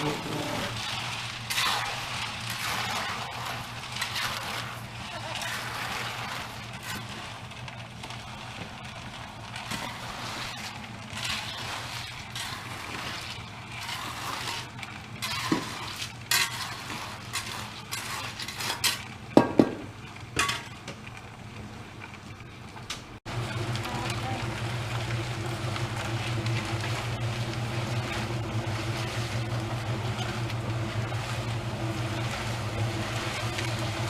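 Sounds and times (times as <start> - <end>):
tools scraping wet cement mix: 0.0 - 20.8, 23.5 - 34.0.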